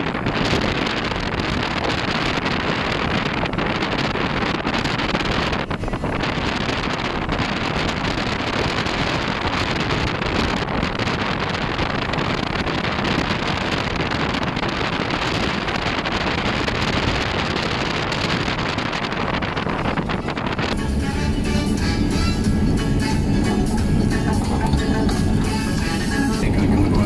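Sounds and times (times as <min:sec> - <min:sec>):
road and engine noise: 0:00.0 - 0:27.0
wind buffeting microphone: 0:00.0 - 0:27.0.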